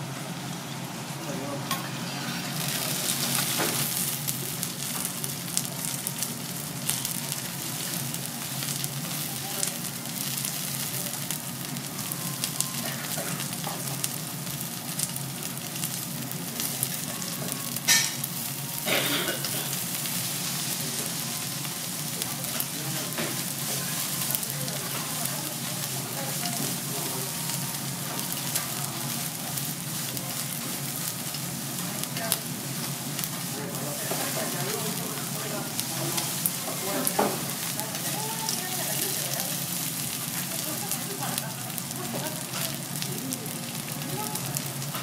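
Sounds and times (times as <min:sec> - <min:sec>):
meat sizzling on a griddle: 0:00.0 - 0:45.0.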